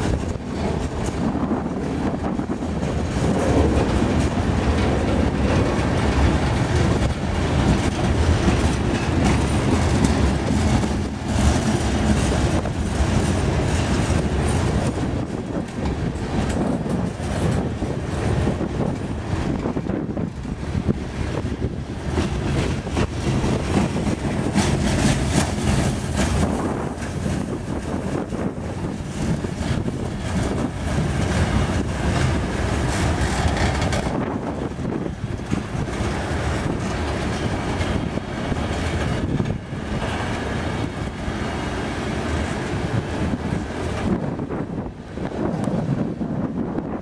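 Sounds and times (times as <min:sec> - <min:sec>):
train wheels rumbling over rails: 0:00.0 - 0:47.0.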